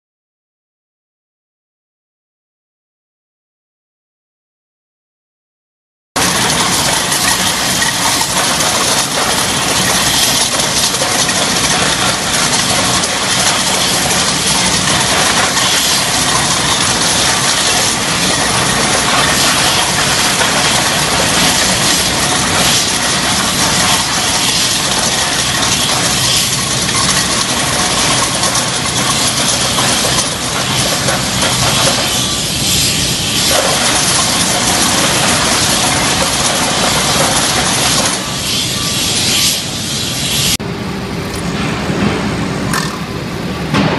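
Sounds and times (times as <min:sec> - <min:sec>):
drum cutter grinding and hissing: 0:06.2 - 0:43.9.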